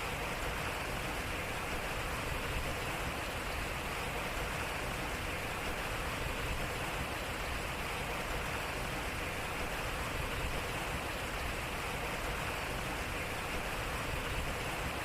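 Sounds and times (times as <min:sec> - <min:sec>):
water rushing over water wheel: 0:00.0 - 0:15.0.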